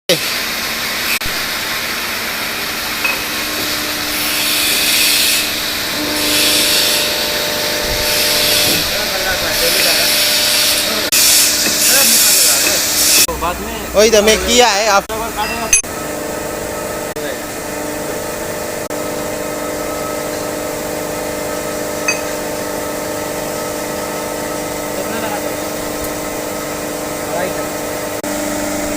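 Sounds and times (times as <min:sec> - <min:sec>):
machine hissing: 0:00.1 - 0:15.0, 0:16.6 - 0:28.2.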